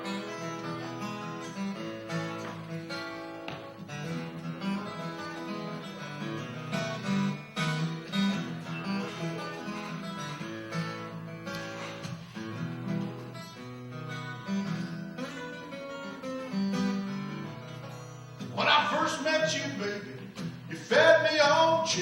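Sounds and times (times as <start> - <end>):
acoustic guitar blues intro: 0.0 - 22.0.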